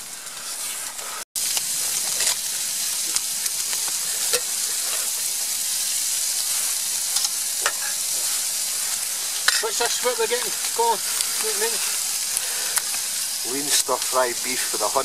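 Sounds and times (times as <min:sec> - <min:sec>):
stir-fry sizzling in a pan: 0:00.0 - 0:15.0.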